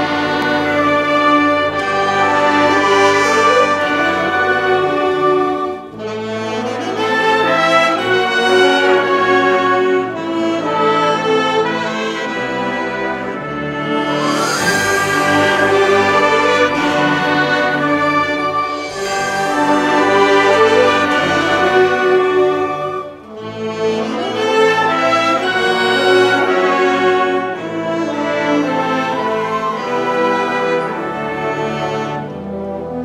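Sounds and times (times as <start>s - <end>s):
concert band playing: 0.0s - 31.8s.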